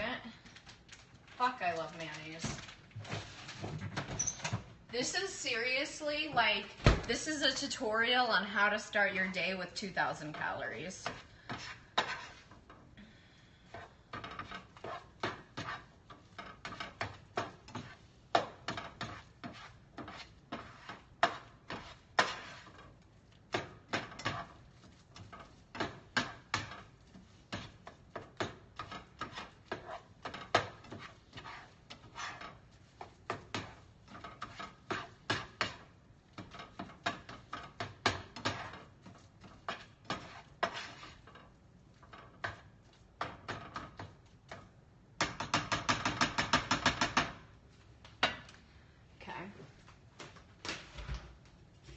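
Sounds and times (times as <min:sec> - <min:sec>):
spatula scraping skillet: 0:05.0 - 0:48.6.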